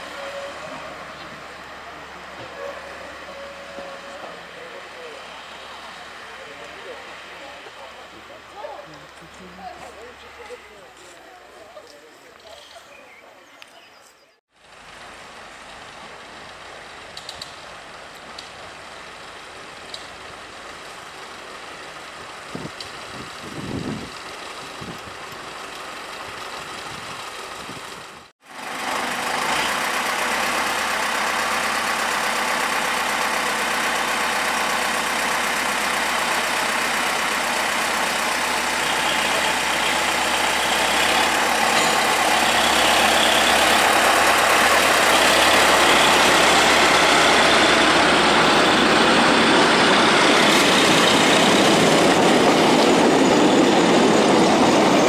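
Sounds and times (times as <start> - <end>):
locomotive diesel engine running: 0.0 - 13.6, 14.3 - 55.0.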